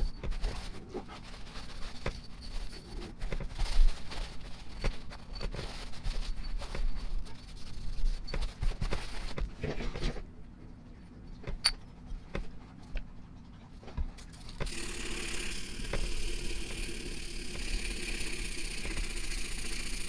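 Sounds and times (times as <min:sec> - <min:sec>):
steady hiss with low hum: 0:00.0 - 0:20.0.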